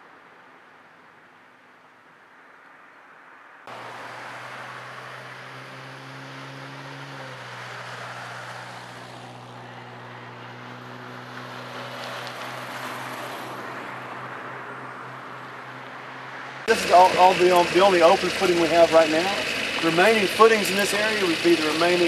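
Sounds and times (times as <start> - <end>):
engine humming: 3.7 - 22.0.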